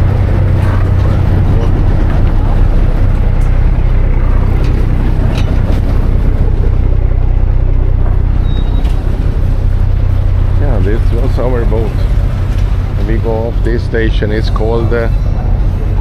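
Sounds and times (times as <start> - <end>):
ferry engine droning: 0.0 - 16.0.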